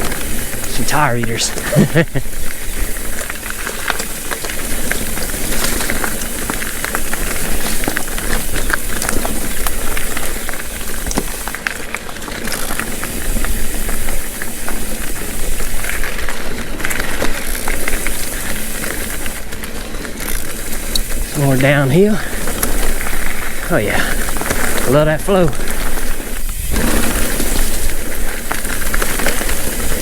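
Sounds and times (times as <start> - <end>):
bike clicks and rattles: 1.6 - 25.0, 25.6 - 30.0.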